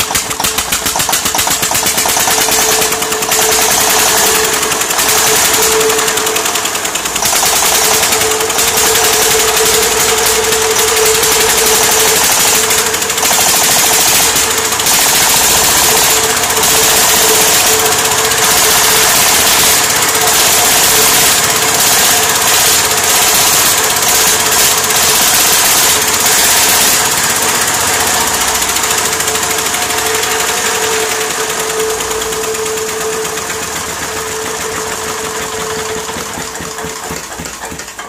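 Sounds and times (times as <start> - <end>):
diesel engine clattering: 0.0 - 38.0.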